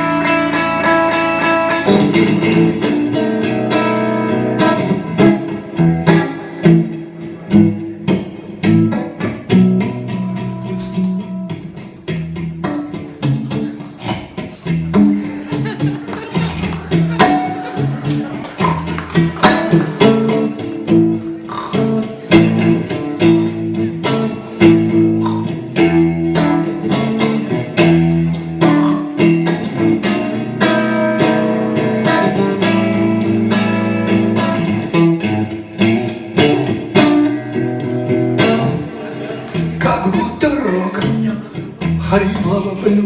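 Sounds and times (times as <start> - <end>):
blues guitar playing: 0.0 - 43.0.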